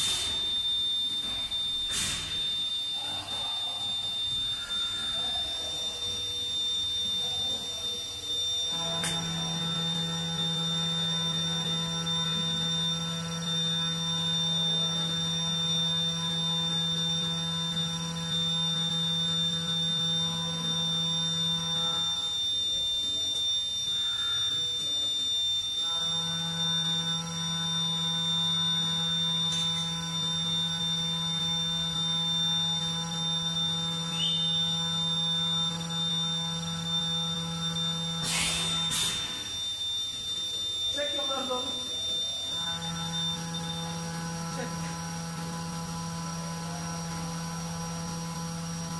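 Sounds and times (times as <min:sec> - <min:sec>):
faint high whine: 0:00.0 - 0:48.9
machine electrical hum: 0:00.0 - 0:48.9.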